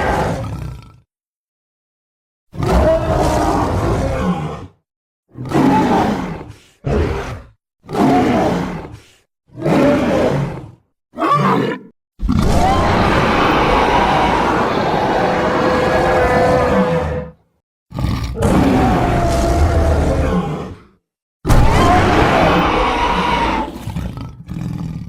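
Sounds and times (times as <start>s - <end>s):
dragon roars and growls: 0.0s - 1.1s, 2.5s - 25.0s.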